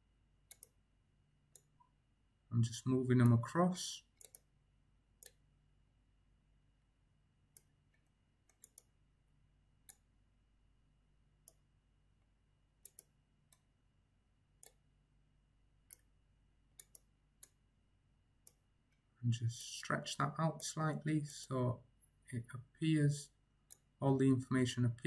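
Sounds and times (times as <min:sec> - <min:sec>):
faint electrical hum: 0:00.0 - 0:25.0.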